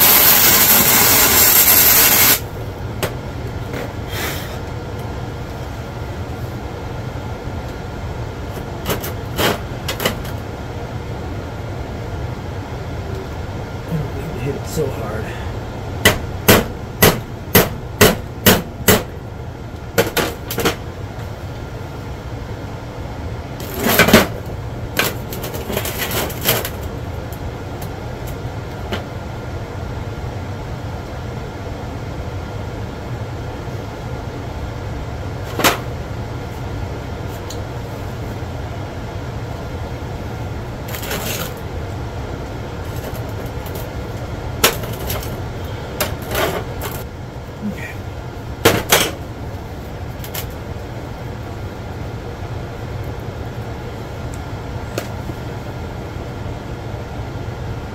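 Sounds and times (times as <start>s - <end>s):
steady background hum: 0.0s - 57.9s.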